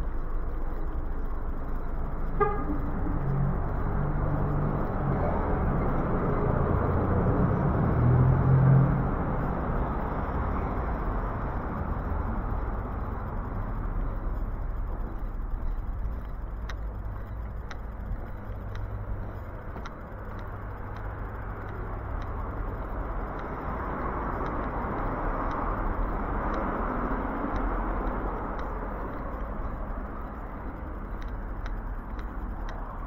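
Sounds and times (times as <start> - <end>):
light ticks: 0.0 - 33.0
steady low rumble: 0.0 - 33.0
car passing: 1.9 - 33.0.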